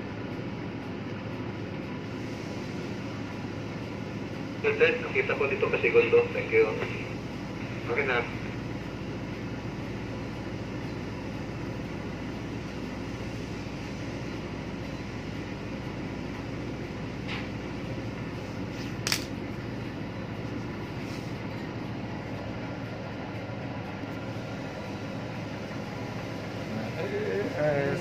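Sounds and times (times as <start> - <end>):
low machinery drone: 0.0 - 28.0.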